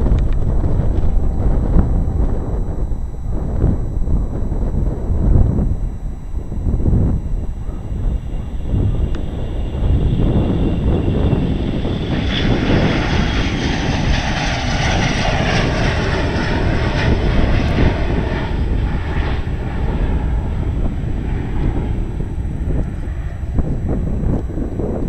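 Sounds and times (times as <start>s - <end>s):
jet engines roaring at takeoff: 0.0s - 25.0s
low rumble: 0.0s - 25.0s.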